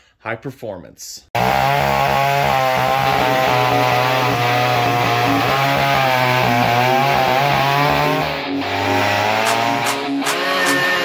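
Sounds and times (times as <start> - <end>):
chainsaw cutting log: 1.4 - 11.0.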